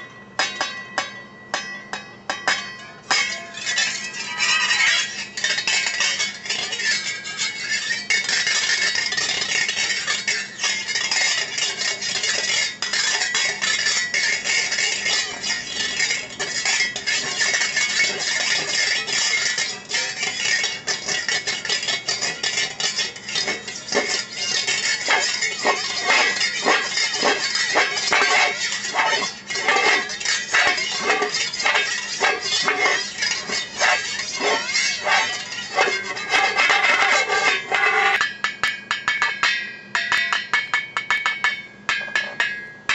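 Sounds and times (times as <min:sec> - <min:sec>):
whisk tapping a metal lid: 0:00.4 - 0:42.9
whisk scraping a metal lid: 0:03.1 - 0:38.3.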